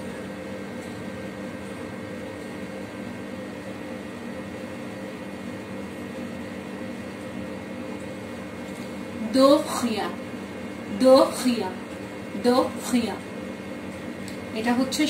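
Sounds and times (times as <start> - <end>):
room tone hum and hiss: 0.0 - 15.0.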